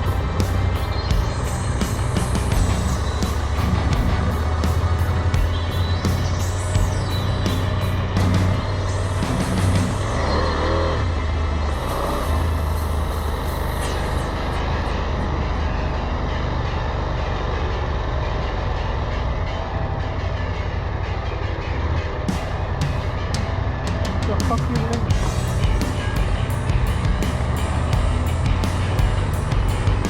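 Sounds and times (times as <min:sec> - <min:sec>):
road and wind noise: 0:00.0 - 0:30.0
vehicle engine drone: 0:00.0 - 0:30.0.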